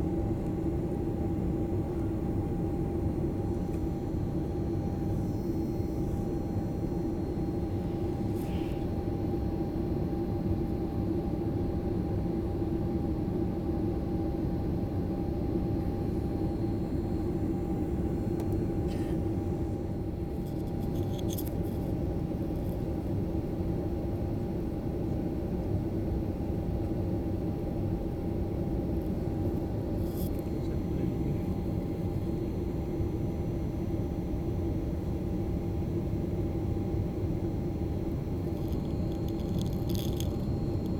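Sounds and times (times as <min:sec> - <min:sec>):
constant hum: 0:00.0 - 0:40.9.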